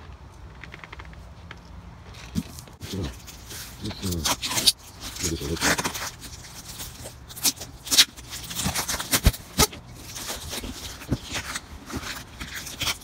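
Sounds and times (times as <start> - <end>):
cardboard and tape rustling: 0.0 - 13.0
cardboard ripping: 2.3 - 13.0.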